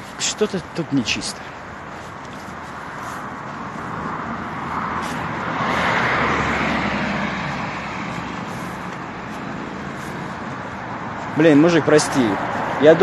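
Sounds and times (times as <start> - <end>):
car passing by: 2.1 - 13.0.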